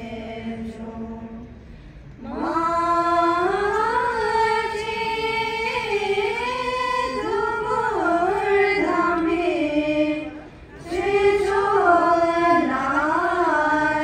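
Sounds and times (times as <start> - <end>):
chanting in long held notes: 0.0 - 14.0.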